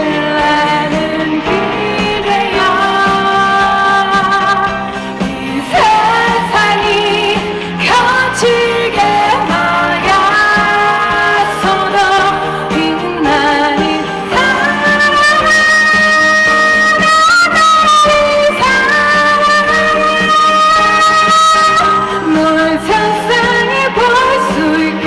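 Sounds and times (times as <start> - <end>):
live pop-rock band: 0.0 - 25.0
woman singing: 0.0 - 25.0.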